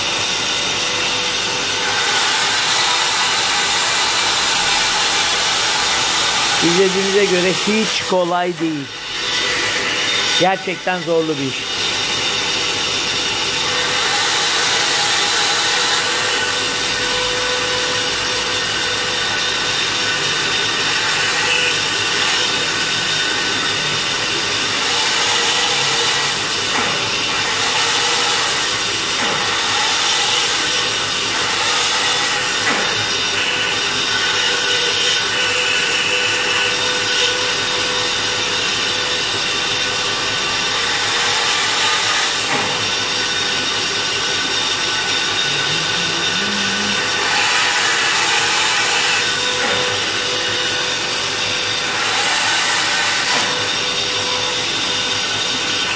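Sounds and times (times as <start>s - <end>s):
band saw cutting wood: 0.0s - 55.9s.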